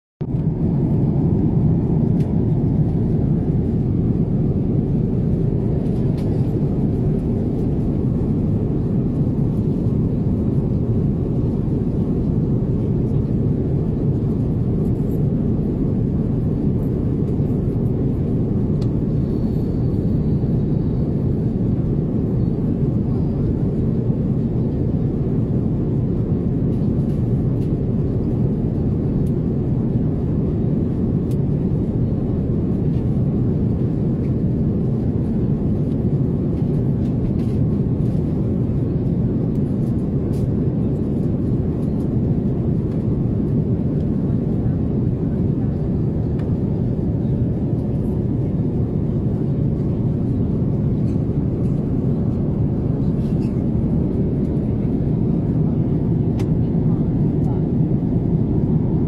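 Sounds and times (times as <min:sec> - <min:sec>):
airliner cabin rumble: 0:00.2 - 0:59.0.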